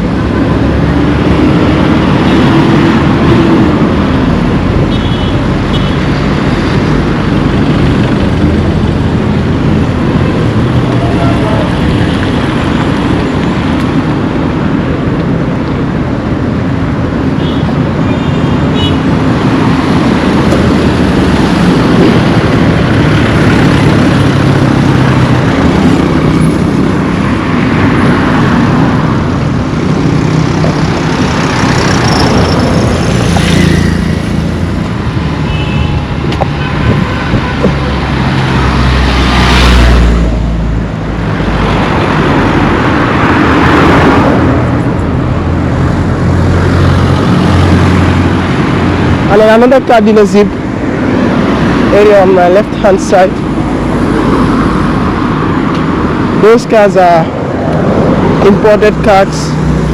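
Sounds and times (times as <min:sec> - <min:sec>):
traffic passing close by: 0:00.0 - 0:59.9.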